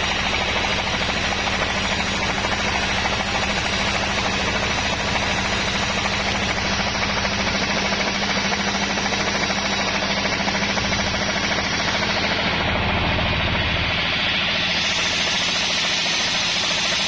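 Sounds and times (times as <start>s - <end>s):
dense even machinery noise: 0.0s - 17.0s
engine hum: 0.0s - 17.0s.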